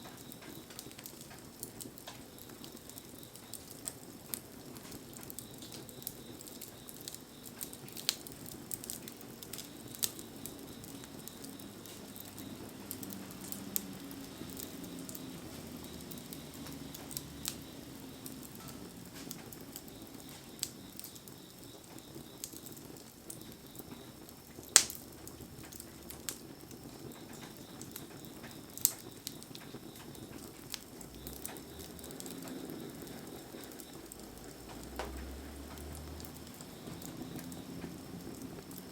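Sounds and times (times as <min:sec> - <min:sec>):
campfire crackling and popping: 0:00.0 - 0:38.9
rain hissing: 0:00.0 - 0:38.9.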